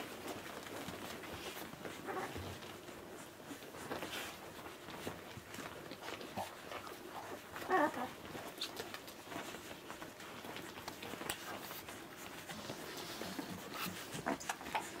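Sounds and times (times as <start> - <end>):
puppies snuffling and clicking: 0.0 - 15.0
rustling on blanket: 0.0 - 15.0.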